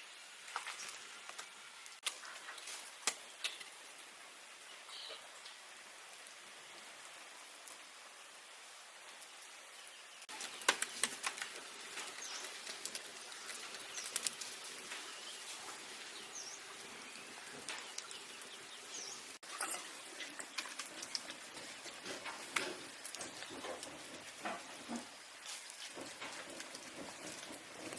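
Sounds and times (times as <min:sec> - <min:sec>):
rain-like hiss: 0:00.0 - 0:27.9.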